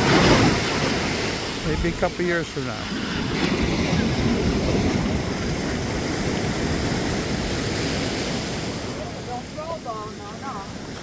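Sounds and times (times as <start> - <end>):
surf rushing on a beach: 0.0 - 11.0
wind buffeting microphone: 0.0 - 11.0.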